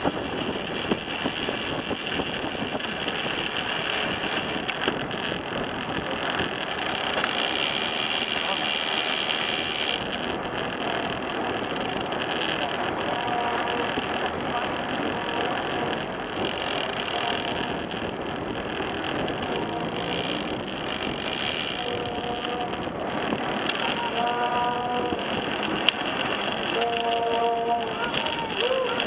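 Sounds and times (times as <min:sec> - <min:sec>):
bicycle rolling on asphalt: 0:00.0 - 0:29.0.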